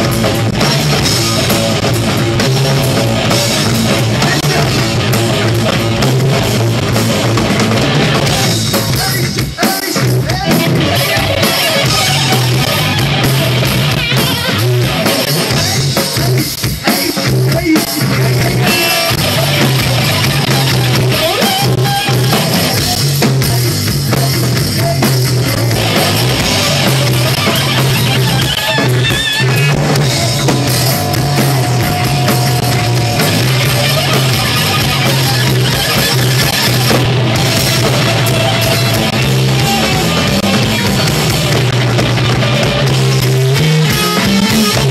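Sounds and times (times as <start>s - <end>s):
bass guitar: 0.0s - 44.9s
drum kit: 0.0s - 44.9s
electric guitar: 0.0s - 44.9s.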